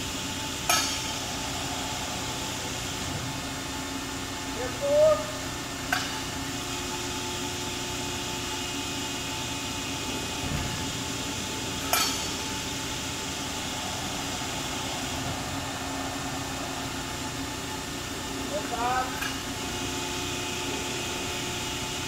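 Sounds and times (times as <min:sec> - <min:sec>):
hydraulic pump humming: 0:00.0 - 0:22.0.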